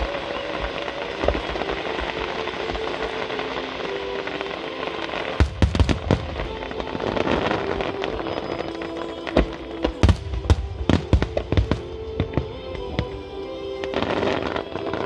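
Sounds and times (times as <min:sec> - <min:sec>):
fireworks crackling: 0:00.0 - 0:15.0
music with held notes: 0:00.0 - 0:15.0.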